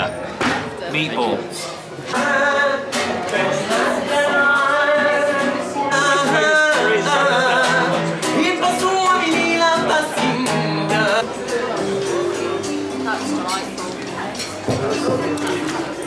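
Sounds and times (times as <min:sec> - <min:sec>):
musical accompaniment: 0:02.1 - 0:16.0.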